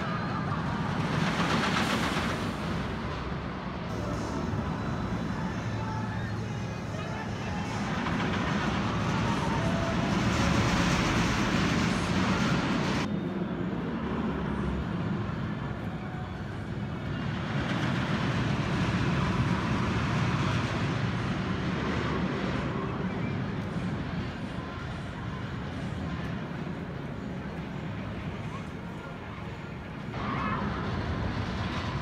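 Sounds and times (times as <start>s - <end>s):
roller coaster train rumbling: 0.0s - 32.0s.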